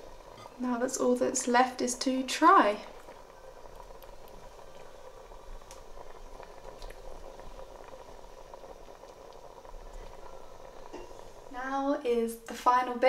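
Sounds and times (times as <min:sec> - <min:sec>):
thick stew bubbling: 0:00.0 - 0:12.3.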